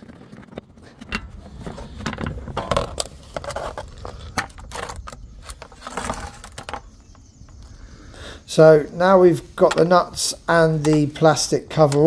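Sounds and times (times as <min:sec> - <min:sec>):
hard plastic clicks and scraping: 0:00.0 - 0:07.7, 0:09.6 - 0:12.0.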